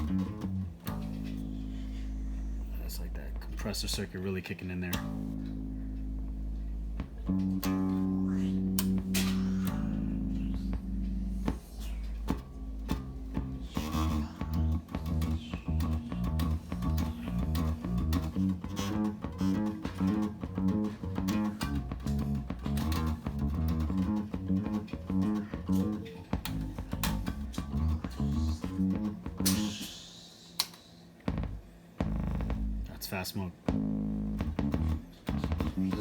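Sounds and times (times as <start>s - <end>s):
electric bass plucked notes: 0.0s - 30.0s, 31.3s - 36.0s.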